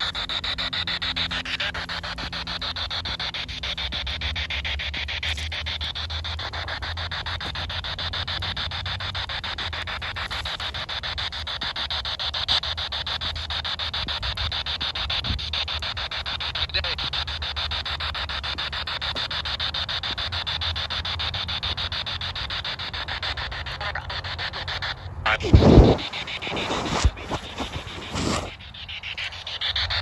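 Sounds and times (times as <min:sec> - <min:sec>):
radio static with rapid clicks: 0:00.0 - 0:30.0.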